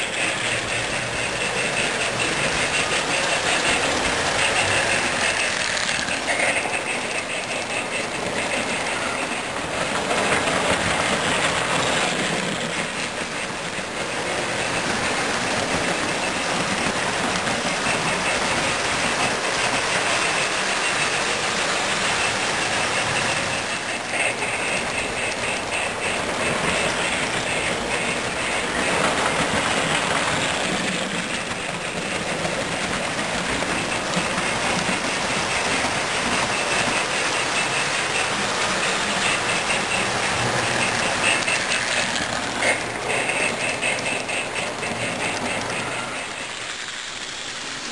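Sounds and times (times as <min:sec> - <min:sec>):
model train rattling on track: 0:00.0 - 0:47.9.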